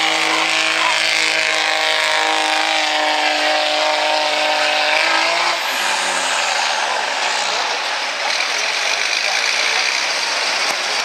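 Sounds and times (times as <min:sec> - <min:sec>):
diesel engine revving hard: 0:00.0 - 0:11.0
tyres churning in dirt: 0:00.0 - 0:11.0.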